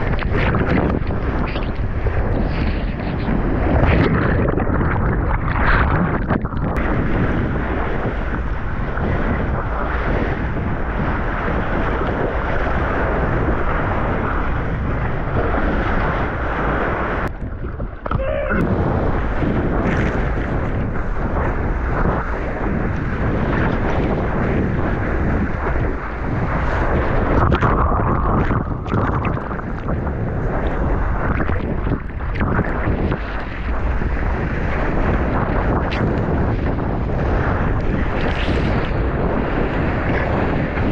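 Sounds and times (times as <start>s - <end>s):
rushing seawater: 0.0s - 40.9s
wind buffeting microphone: 0.0s - 40.9s.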